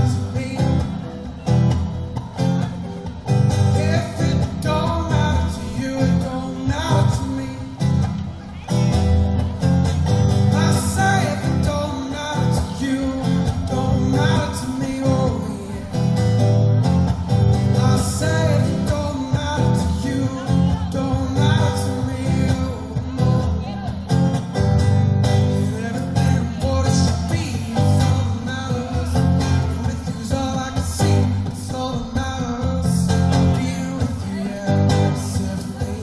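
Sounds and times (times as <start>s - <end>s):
man singing: 0.0s - 1.6s, 2.3s - 9.1s, 10.3s - 36.0s
acoustic guitar: 0.0s - 36.0s
strong bass: 0.0s - 36.0s.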